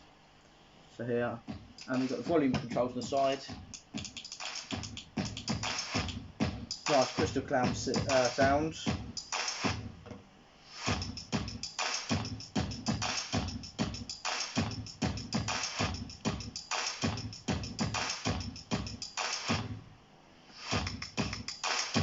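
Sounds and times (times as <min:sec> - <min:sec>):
electronic music with drum beat: 0:01.4 - 0:10.0, 0:10.7 - 0:19.8, 0:20.6 - 0:22.0.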